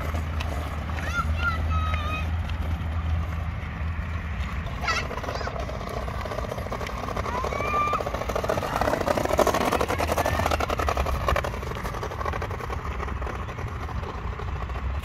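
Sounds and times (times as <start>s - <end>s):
scooter wheels rattling on paving: 0.0s - 15.0s.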